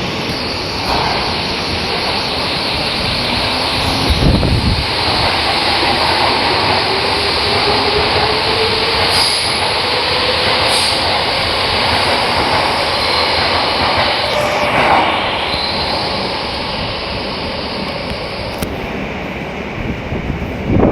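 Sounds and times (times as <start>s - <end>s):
train whine rising in pitch: 0.0s - 18.9s
train wheels rumbling on rail: 0.0s - 20.9s.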